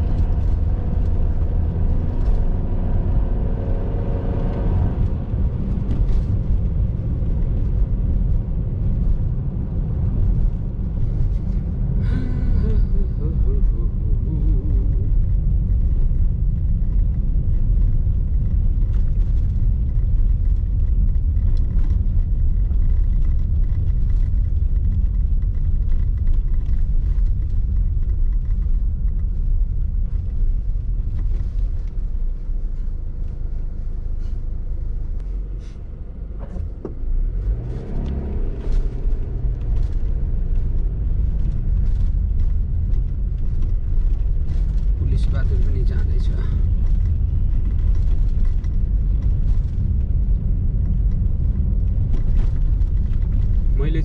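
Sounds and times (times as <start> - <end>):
car cabin engine and tyre rumble: 0.0 - 54.0.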